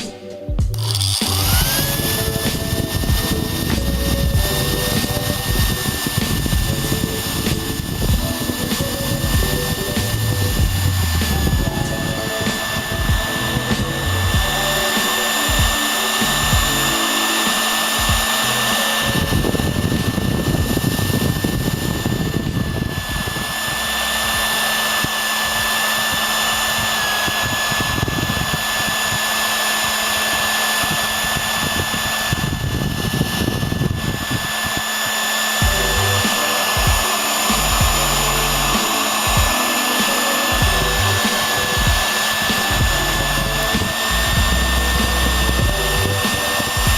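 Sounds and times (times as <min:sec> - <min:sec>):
hair dryer running: 0:00.0 - 0:46.9.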